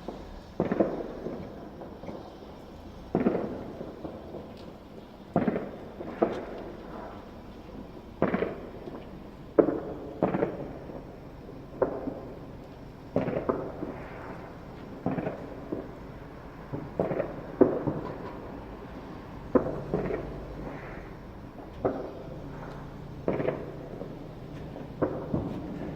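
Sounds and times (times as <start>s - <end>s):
fireworks banging: 0.0s - 25.9s.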